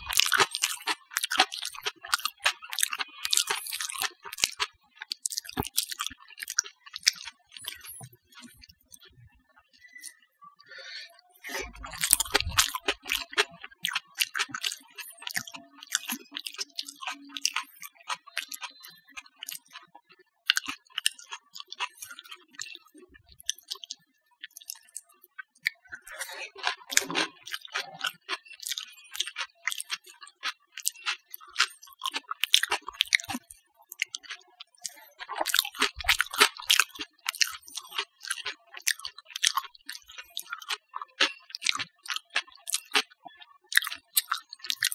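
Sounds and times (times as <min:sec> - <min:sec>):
wet chewing and lip-smacking: 0:00.0 - 0:09.2, 0:09.8 - 0:44.9.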